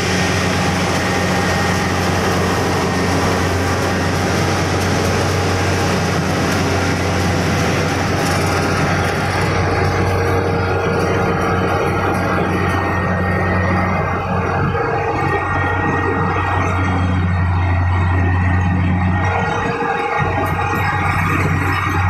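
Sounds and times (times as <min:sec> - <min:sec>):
diesel engine hum: 0:00.0 - 0:22.0.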